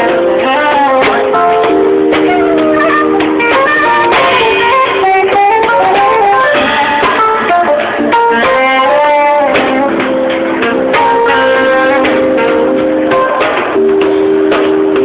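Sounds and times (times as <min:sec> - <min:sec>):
instrumental accompaniment: 0:00.0 - 0:15.0
saxophone melody: 0:00.0 - 0:15.0.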